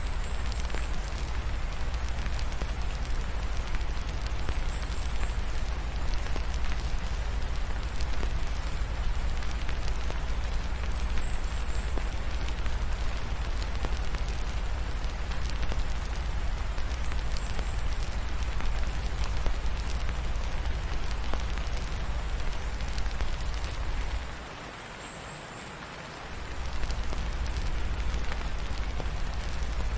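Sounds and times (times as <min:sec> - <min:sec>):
wood fire crackling: 0:00.0 - 0:24.5, 0:26.2 - 0:29.9
steady rain: 0:00.0 - 0:29.9.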